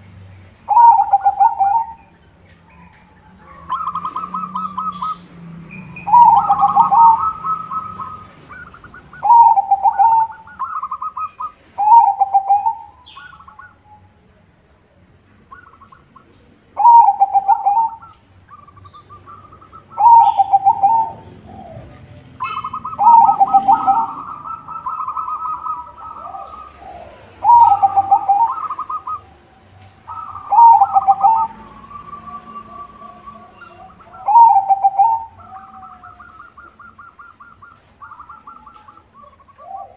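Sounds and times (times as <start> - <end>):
dove cooing trilled song: 0.0 - 14.4, 15.4 - 39.9.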